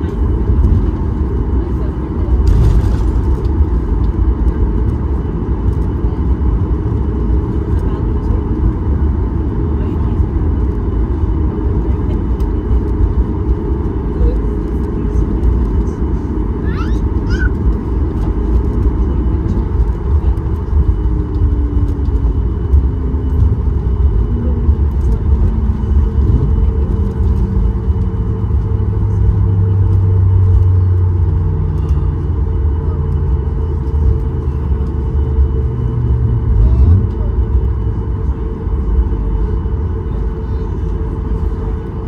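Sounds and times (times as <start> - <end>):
low rumble of aircraft taxiing: 0.0 - 42.0.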